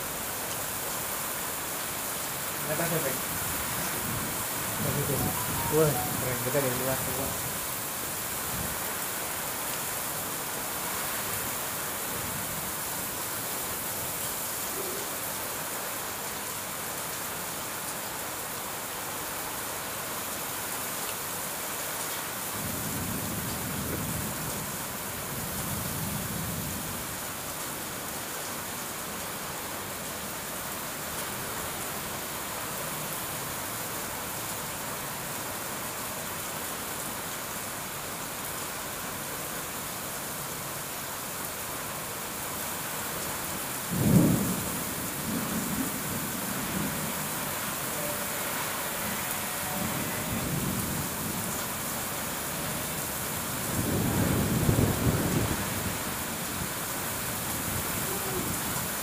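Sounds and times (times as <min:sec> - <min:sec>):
heavy rain on wet paving: 0:00.0 - 0:59.0.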